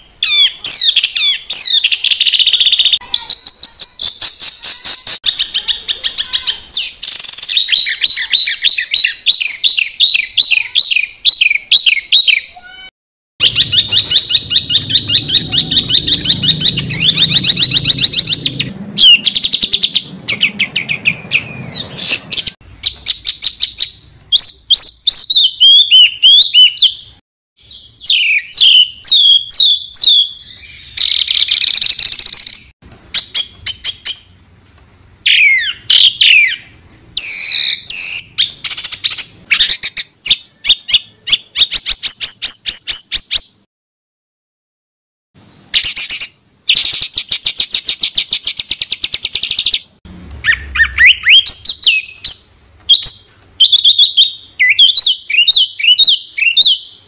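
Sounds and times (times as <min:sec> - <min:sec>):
songbirds singing rapid chirps: 0:00.0 - 0:12.7, 0:13.4 - 0:34.5, 0:35.2 - 0:43.6, 0:45.4 - 0:57.0.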